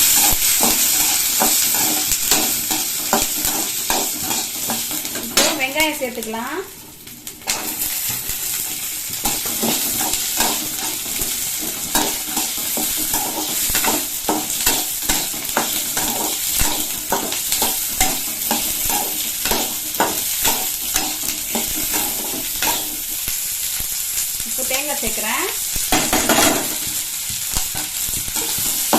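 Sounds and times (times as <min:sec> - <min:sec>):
utensil scraping and knocking pan: 0:00.0 - 0:05.7, 0:07.3 - 0:23.0, 0:25.9 - 0:28.9
shallots sizzling in hot oil: 0:00.0 - 0:28.9.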